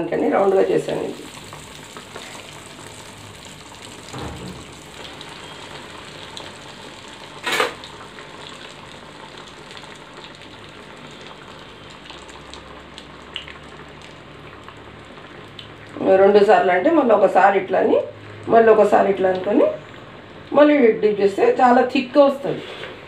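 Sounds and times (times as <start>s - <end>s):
oil bubbling and sizzling: 0.0s - 23.0s.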